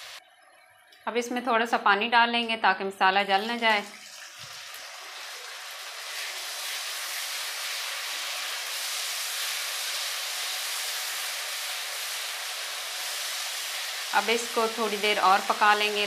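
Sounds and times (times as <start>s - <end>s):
oil sizzling in a pan: 0.0s - 0.6s, 3.4s - 16.0s.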